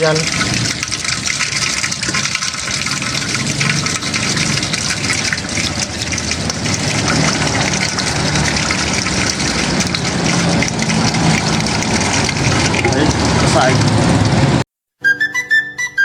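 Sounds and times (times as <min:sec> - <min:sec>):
hands scrubbing under water: 0:00.0 - 0:14.6
water running from a tap: 0:00.0 - 0:14.6.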